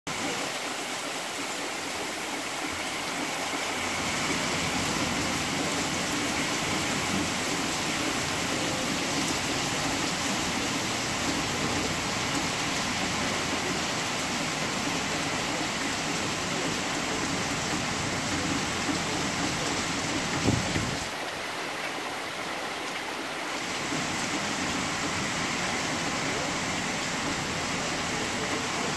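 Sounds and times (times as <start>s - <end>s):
heavy rain on foliage: 0.1s - 28.9s.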